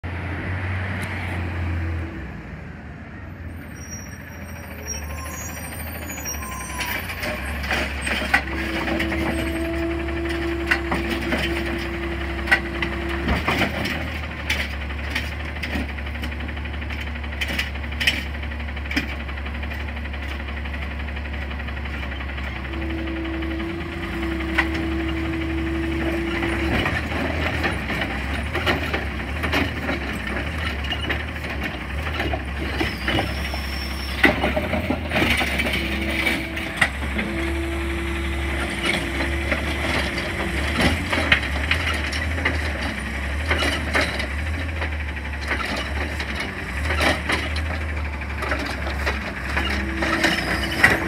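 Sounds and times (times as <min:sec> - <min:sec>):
garbage truck diesel engine running: 0:02.2 - 0:51.0
knocks and clatter from truck: 0:07.2 - 0:22.4, 0:23.6 - 0:37.3, 0:38.6 - 0:51.0.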